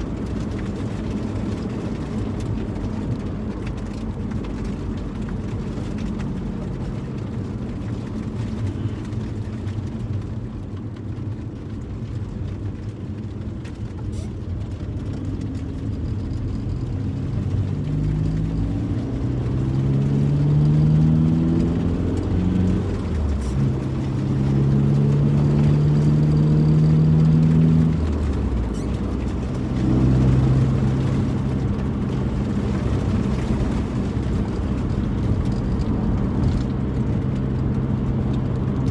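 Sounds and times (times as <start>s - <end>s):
car engine accelerating: 0.0s - 9.8s, 13.2s - 38.9s
road and tyre rumble: 0.0s - 38.9s.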